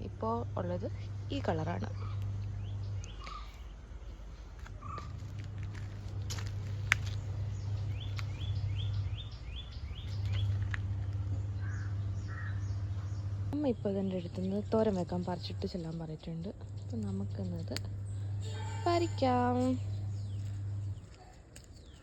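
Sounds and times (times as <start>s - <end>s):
low steady rumble: 0.0s - 21.3s
birds chirping: 0.0s - 22.0s.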